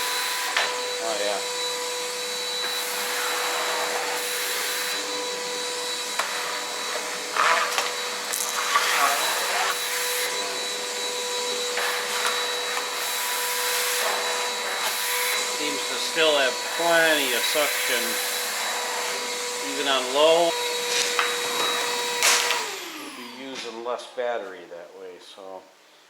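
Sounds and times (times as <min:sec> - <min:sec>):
wet dry vacuum running: 0:00.0 - 0:23.8.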